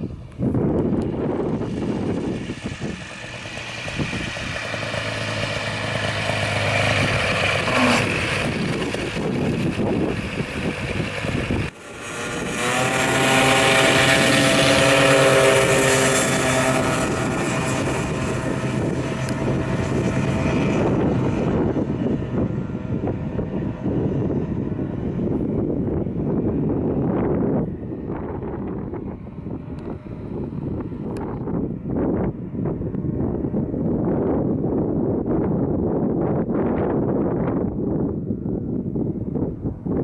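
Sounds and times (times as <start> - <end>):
light airplane engine and propeller: 0.0 - 40.0.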